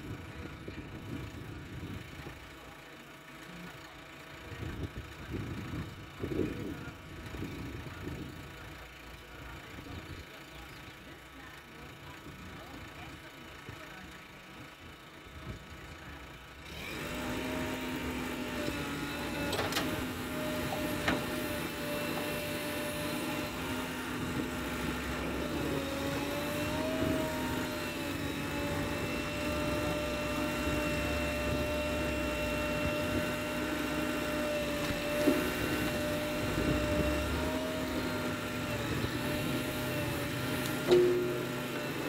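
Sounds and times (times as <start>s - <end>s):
diesel engine whining under load: 0.0s - 42.0s.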